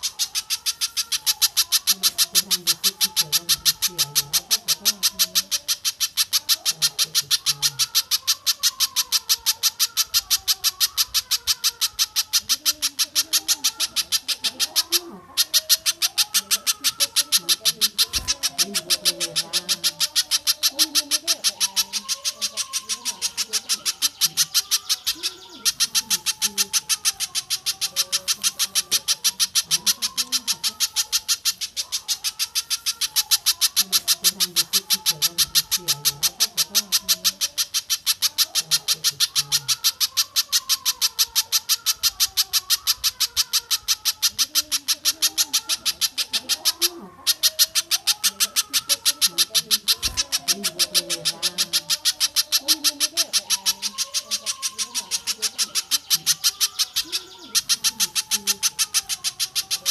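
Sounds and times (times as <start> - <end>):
bird chipping rapidly: 0.0 - 59.9.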